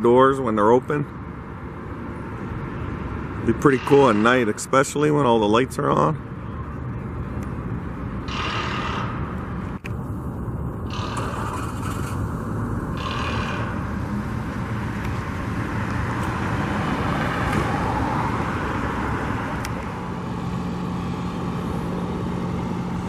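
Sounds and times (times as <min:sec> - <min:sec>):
cars passing by: 0:00.0 - 0:23.0
road traffic noise: 0:00.0 - 0:23.0.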